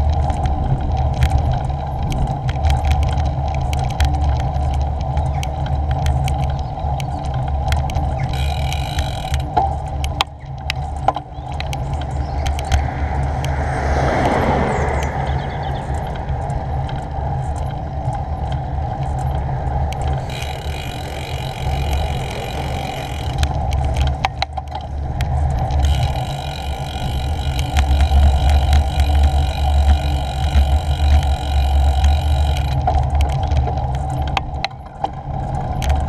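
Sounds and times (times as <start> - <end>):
tyres on rough tarmac: 0.0 - 36.0
wind buffeting microphone: 0.0 - 36.0.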